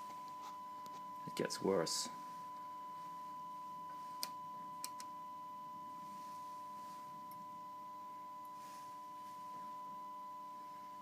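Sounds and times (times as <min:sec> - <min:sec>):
high sine test tone: 0:00.0 - 0:11.0.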